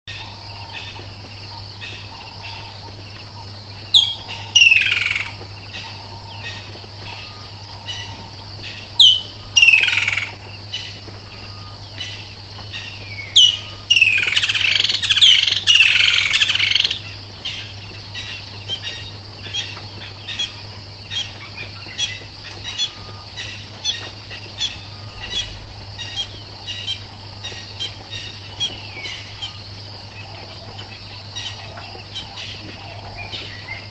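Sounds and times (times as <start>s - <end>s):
insect hiss: 0.1s - 33.9s
wild birds calling: 0.1s - 33.9s.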